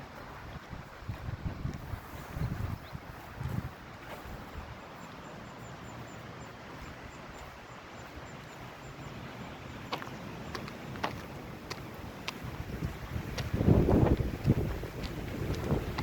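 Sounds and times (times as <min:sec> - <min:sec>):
brook flowing: 0:00.0 - 0:16.0.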